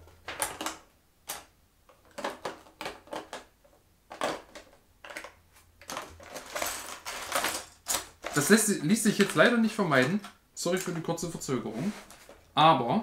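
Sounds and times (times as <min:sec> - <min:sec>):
plastic parts clicking and rustling: 0:00.0 - 0:11.3.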